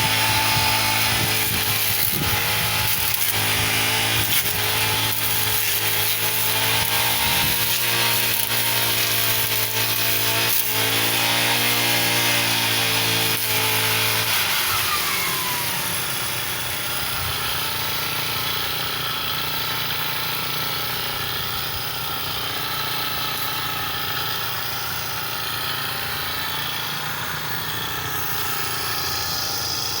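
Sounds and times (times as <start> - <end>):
brush cutter engine running: 0.0 - 30.0.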